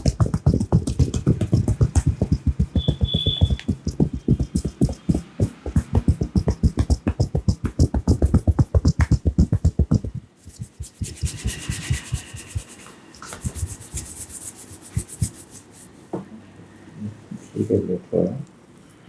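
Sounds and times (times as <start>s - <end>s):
hands tapping during massage: 0.0s - 15.8s
rubbing of oiled hair and skin: 0.0s - 16.0s.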